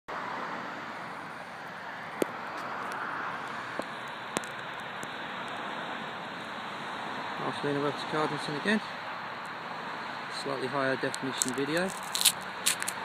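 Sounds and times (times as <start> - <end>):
outdoor background noise: 0.1 - 13.0.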